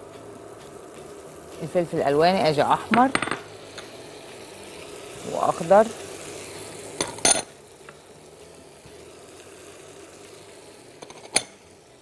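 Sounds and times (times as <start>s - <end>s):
quiet sizzle in pan: 0.0s - 12.0s.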